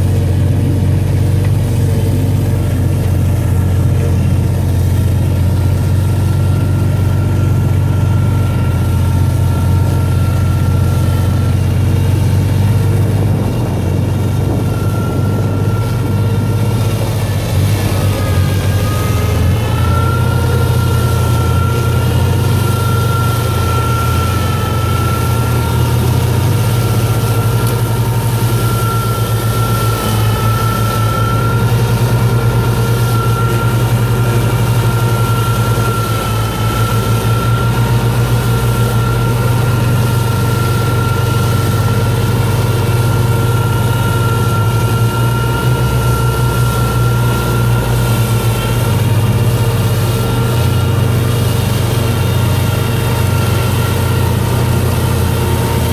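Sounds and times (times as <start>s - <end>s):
high whine of flail mower: 0.0s - 55.9s
tractor diesel engine running: 0.0s - 55.9s.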